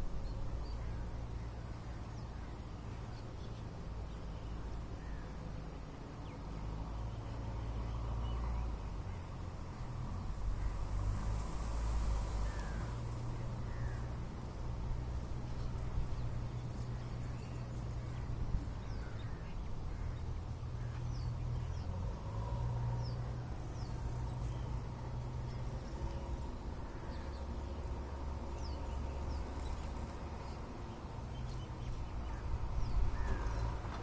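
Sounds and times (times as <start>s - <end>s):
sunbirds chirping: 0.0s - 34.0s.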